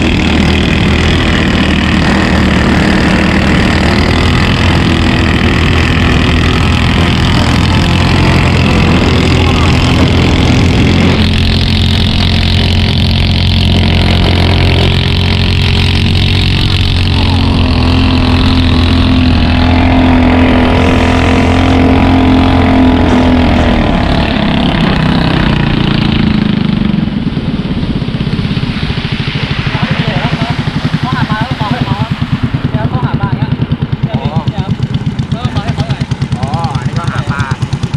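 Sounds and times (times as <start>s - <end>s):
boat engine droning: 0.0s - 37.9s.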